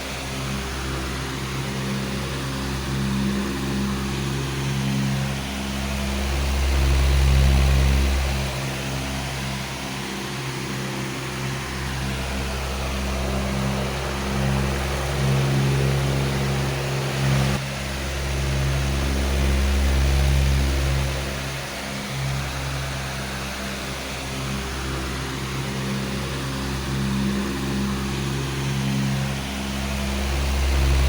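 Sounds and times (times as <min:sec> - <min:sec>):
powerful fan running: 0:00.0 - 0:31.0.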